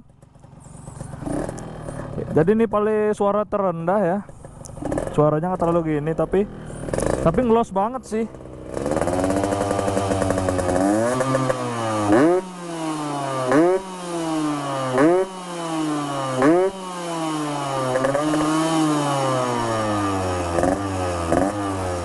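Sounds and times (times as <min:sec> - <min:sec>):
motorcycle engine revving: 0:00.0 - 0:02.8, 0:04.2 - 0:22.0.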